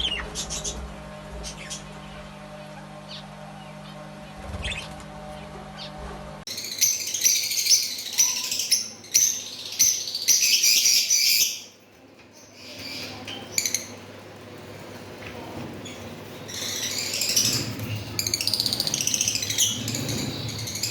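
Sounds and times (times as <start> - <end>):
parrots chirping and chattering: 0.0 - 20.9.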